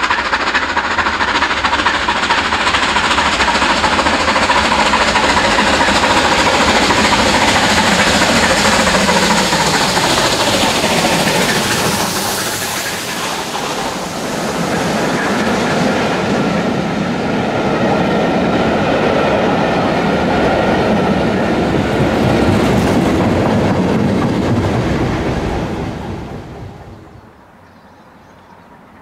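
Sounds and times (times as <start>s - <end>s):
steam locomotive passing: 0.0s - 29.0s
train coaches running past: 0.0s - 29.0s.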